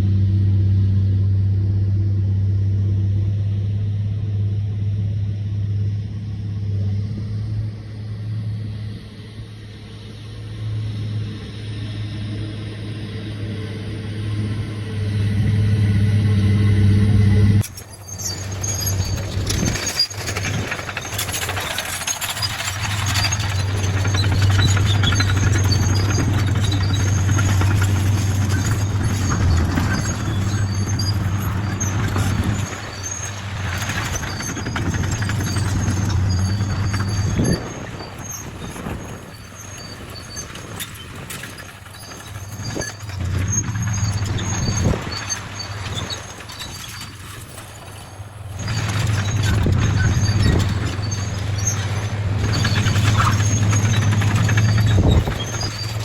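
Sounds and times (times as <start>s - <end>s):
bulldozer diesel engine running: 0.0s - 56.0s
metallic squealing tracks: 10.1s - 56.0s.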